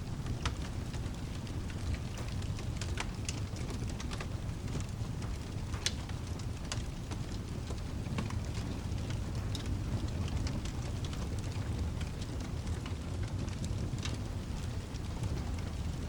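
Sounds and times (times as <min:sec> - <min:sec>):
burning logs crackling: 0:00.0 - 0:16.0
rain rushing: 0:00.0 - 0:16.0.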